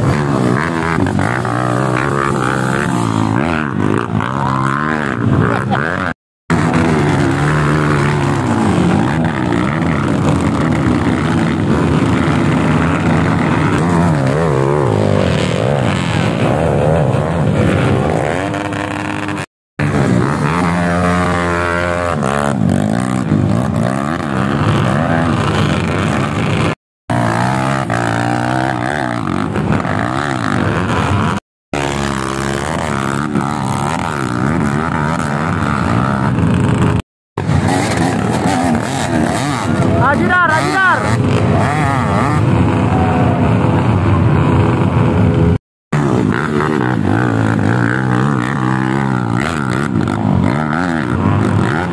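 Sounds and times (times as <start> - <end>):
motorcycle engines revving hard: 0.0 - 51.9.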